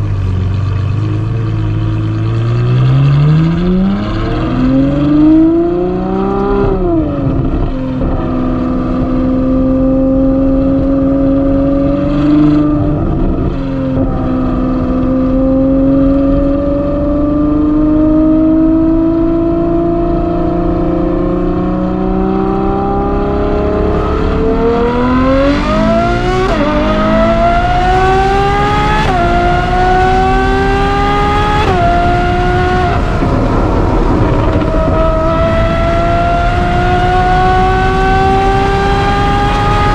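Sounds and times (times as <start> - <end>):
sports car engine accelerating: 0.0 - 39.9.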